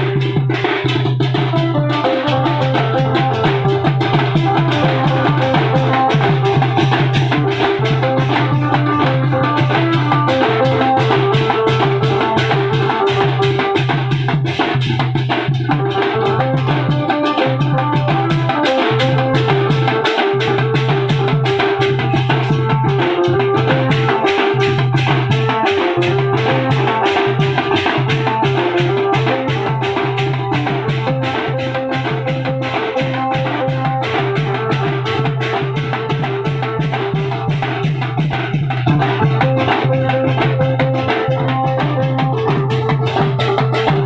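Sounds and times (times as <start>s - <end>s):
drums beating fast rhythm: 0.0s - 44.0s
stepping melody line: 0.0s - 44.0s.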